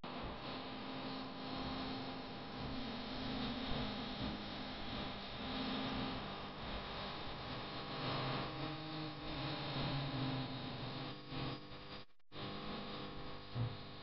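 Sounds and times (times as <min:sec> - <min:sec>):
electrical hum with hiss: 0:00.1 - 0:14.0.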